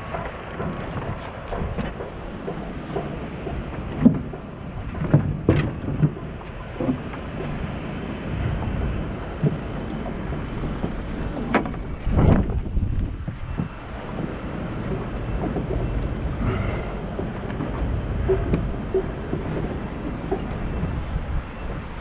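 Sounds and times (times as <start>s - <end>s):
boat engine rumble: 0.0s - 22.0s
wind buffeting microphone: 0.0s - 22.0s.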